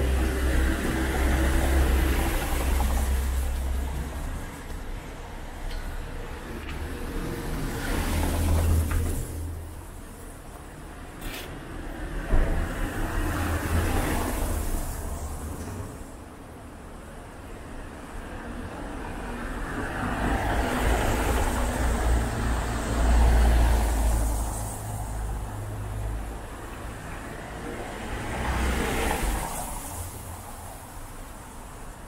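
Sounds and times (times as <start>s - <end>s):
car passing on wet street: 0.0s - 16.2s, 18.1s - 32.0s.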